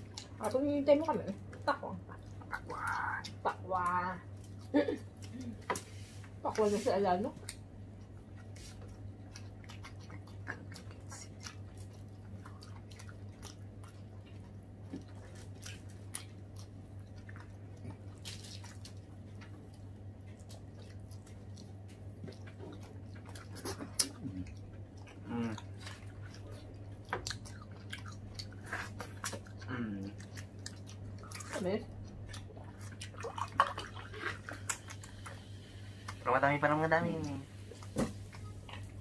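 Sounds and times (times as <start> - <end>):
people chewing watermelon: 0.0 - 39.0
steady low hum: 0.0 - 39.0.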